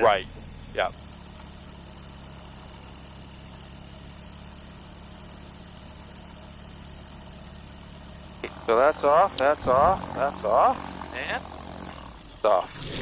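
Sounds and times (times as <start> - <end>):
aircraft engine idling: 0.0 - 13.0.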